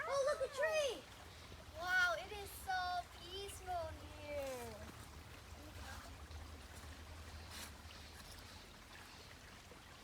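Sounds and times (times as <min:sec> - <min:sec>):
small creek flowing: 0:00.0 - 0:10.0.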